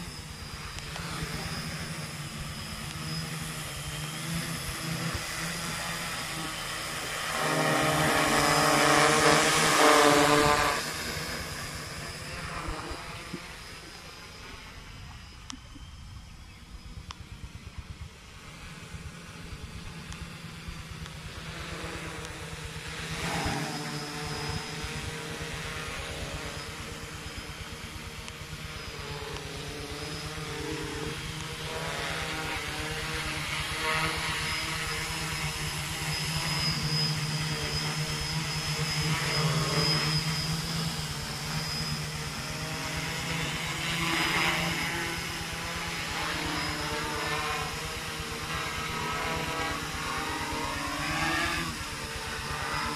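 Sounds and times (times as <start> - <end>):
quadcopter propellers buzzing: 0.0 - 52.9.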